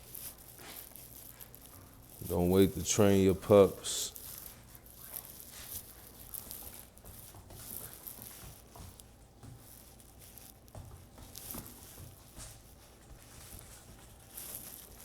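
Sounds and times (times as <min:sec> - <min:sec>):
puppy scuffling and rustling: 0:00.0 - 0:02.7, 0:04.1 - 0:15.0.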